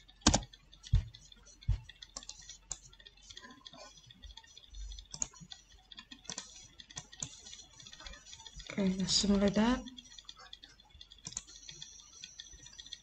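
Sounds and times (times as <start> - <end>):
keyboard and mouse clicks: 0.0 - 13.0.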